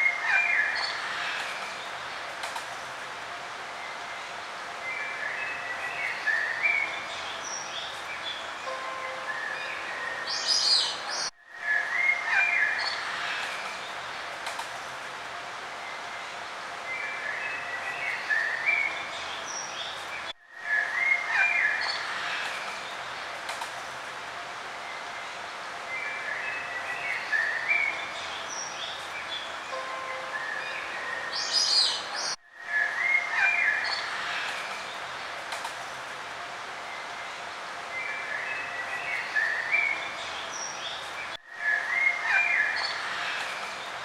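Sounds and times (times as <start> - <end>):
songbirds chirping and singing: 0.0 - 2.4, 3.7 - 14.4, 15.8 - 23.4, 24.8 - 35.4, 36.9 - 44.0
steady background hiss: 0.0 - 44.0.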